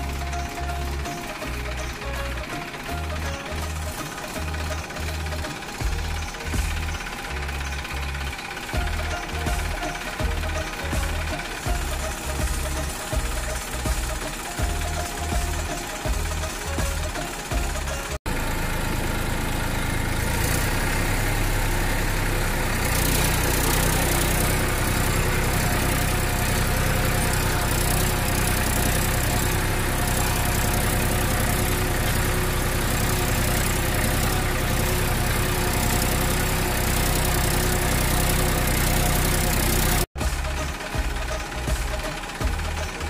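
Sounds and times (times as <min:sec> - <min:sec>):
motor humming steadily: 0:00.0 - 0:43.0.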